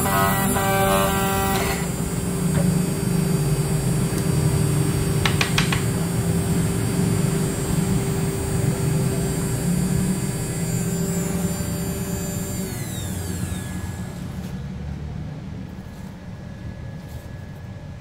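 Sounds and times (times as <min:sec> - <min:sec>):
router motors humming: 0:00.0 - 0:14.7.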